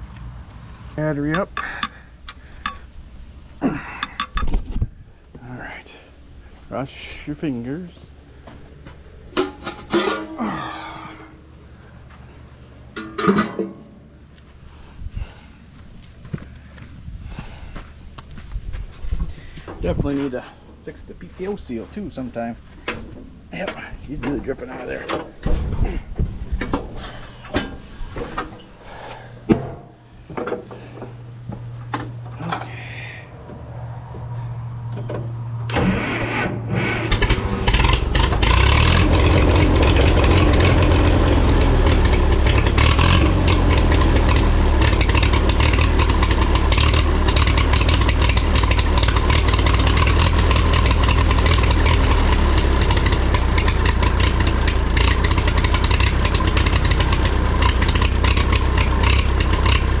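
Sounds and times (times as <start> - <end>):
tractor engine starting and running: 0.0 - 60.0.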